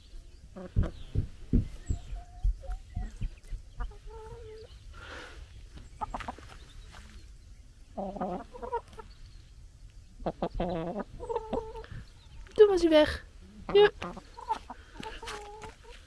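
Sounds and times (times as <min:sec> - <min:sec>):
hens clucking: 0:00.1 - 0:16.0.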